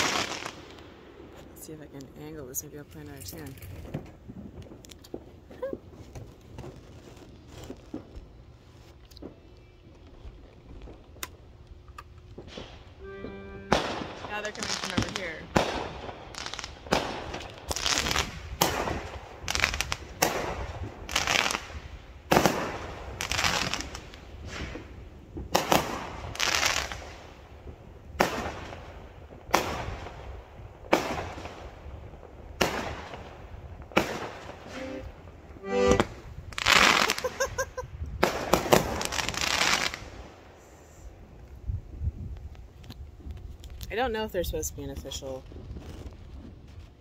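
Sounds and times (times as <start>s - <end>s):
fireworks banging and crackling: 0.0s - 13.0s, 13.7s - 35.0s, 36.1s - 40.5s, 45.0s - 47.0s.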